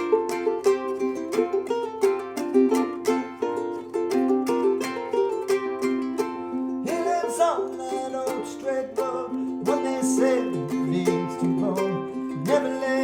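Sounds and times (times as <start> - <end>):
ukulele plucked notes: 0.0 - 13.0.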